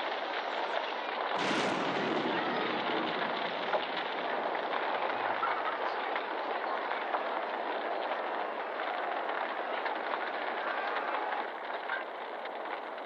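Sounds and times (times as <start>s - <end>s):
large fire burning: 0.0s - 13.0s.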